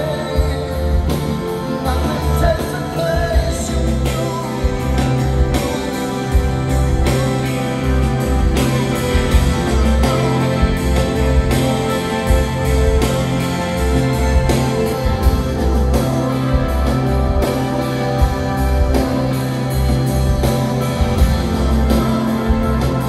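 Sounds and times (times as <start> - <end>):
electric guitar: 0.0 - 23.0
rock band playing live: 0.0 - 23.0.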